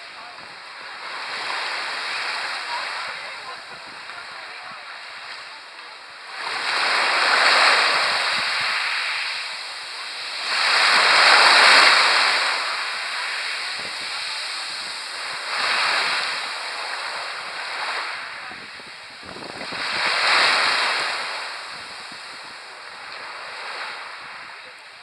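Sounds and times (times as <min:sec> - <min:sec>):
waves washing onto pebble beach: 0:00.0 - 0:25.0.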